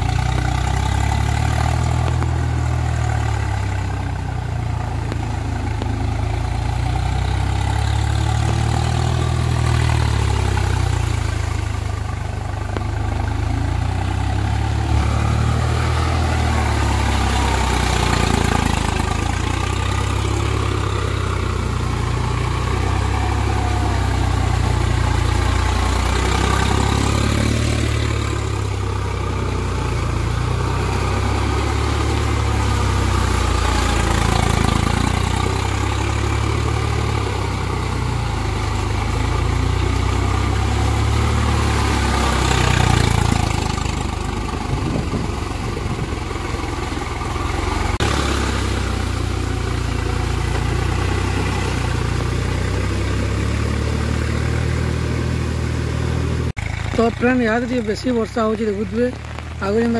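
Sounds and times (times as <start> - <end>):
tractor diesel engine running: 0.0 - 59.9
wheels dragging through mud: 0.0 - 59.9.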